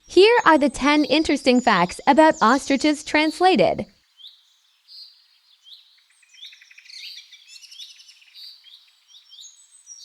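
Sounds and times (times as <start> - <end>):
songbirds chirping: 0.0 - 10.0.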